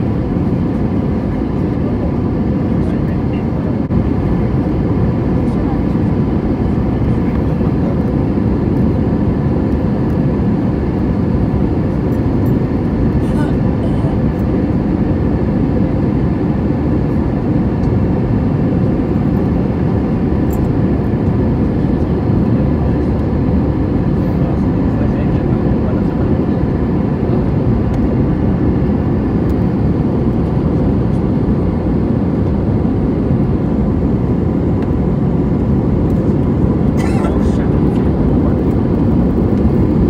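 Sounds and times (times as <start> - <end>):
jet engines and rushing air: 0.0 - 40.0.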